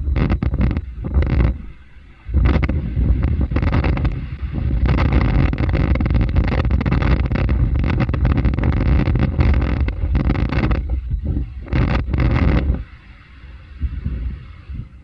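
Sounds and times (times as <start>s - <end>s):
wind buffeting microphone: 0.0s - 13.0s, 13.6s - 15.0s.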